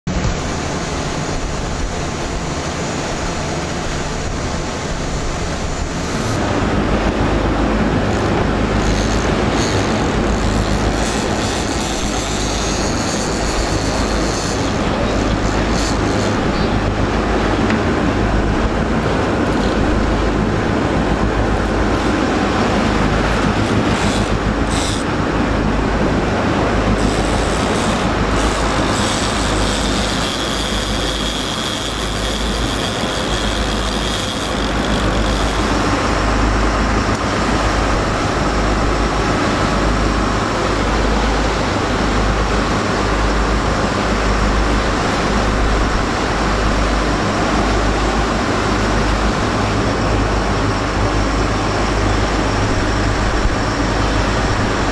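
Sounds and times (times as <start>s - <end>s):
boat engine drone: 0.1s - 54.9s
water rushing from wake: 0.1s - 54.9s.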